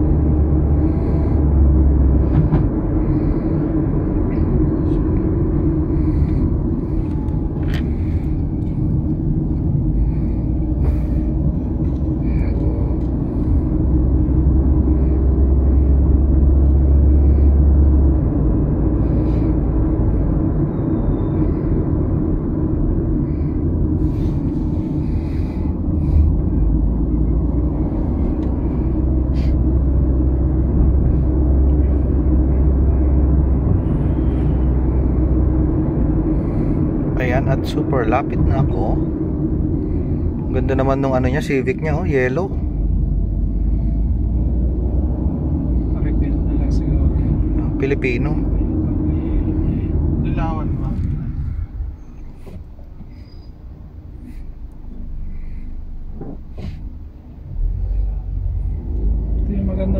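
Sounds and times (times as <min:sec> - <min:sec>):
road and engine rumble inside car: 0:00.0 - 0:59.9.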